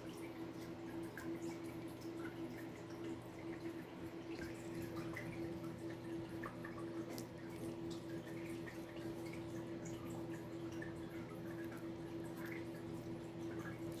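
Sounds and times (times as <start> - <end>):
puppy licking and lapping: 0.0 - 14.0.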